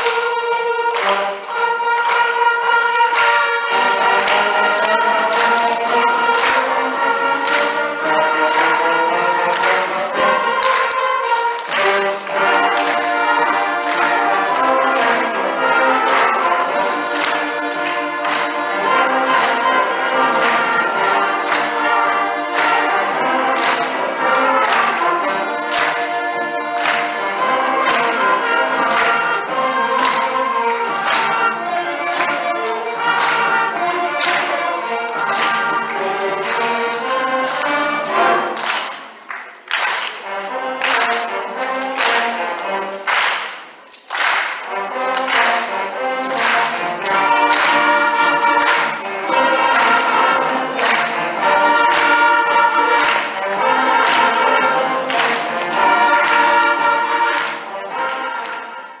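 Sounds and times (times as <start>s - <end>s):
concert band music: 0.0s - 59.0s.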